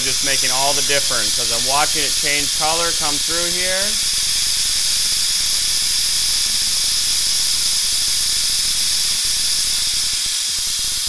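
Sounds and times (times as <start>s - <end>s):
pneumatic brake bleeder hissing: 0.0s - 11.0s.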